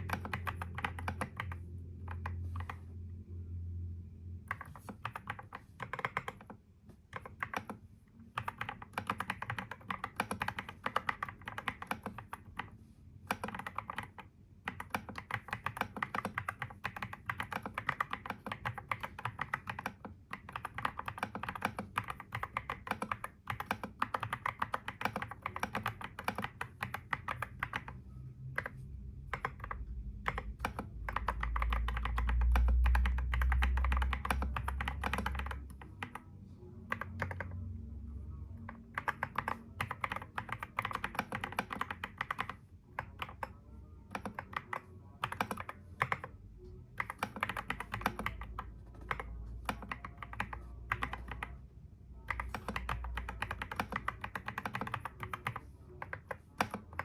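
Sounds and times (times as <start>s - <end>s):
computer keyboard typing: 0.0s - 2.9s, 4.4s - 37.9s, 38.6s - 57.0s.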